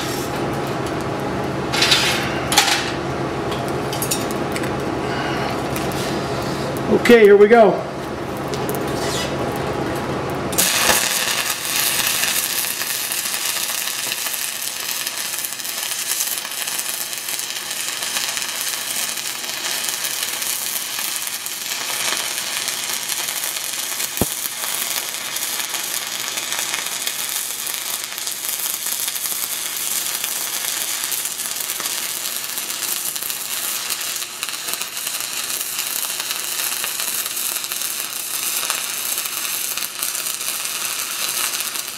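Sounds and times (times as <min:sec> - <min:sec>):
welding arc burning: 0:00.0 - 0:41.9.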